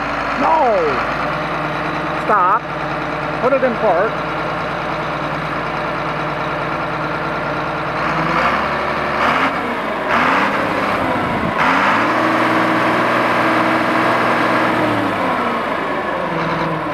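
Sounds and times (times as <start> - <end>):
tractor diesel engine revving: 0.0 - 16.9.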